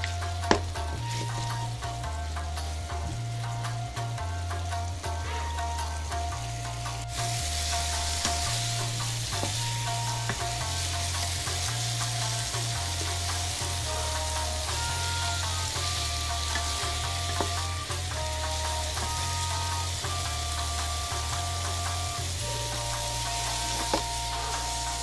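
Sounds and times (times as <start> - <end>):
background music with bass line: 0.0 - 25.0
tofu sizzling in a frying pan: 0.0 - 25.0.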